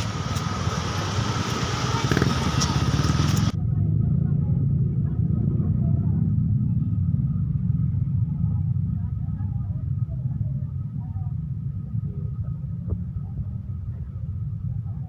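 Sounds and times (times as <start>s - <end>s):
vehicle rumbling: 0.0s - 15.0s.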